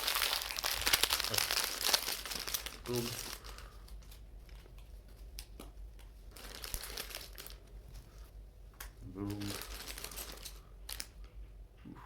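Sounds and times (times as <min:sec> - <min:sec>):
plastic rustling: 0:00.0 - 0:08.4, 0:09.0 - 0:11.2.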